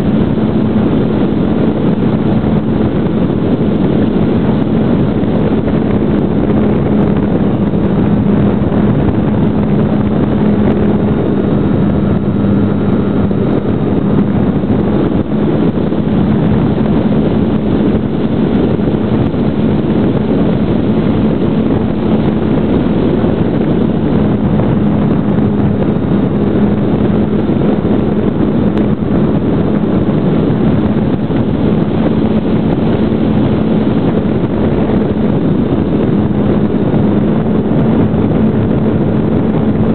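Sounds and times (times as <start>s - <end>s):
electric motor and propeller: 0.0s - 39.9s
wind rushing over microphone: 0.0s - 39.9s.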